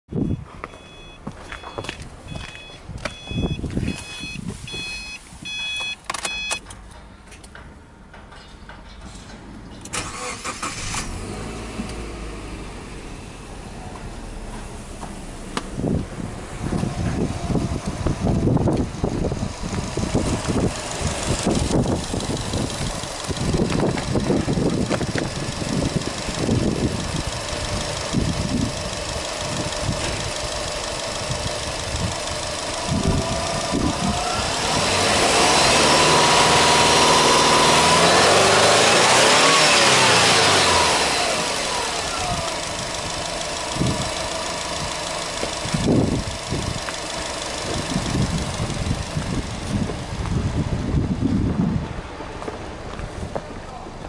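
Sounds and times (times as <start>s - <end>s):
car engine idling and revving: 0.2s - 54.0s.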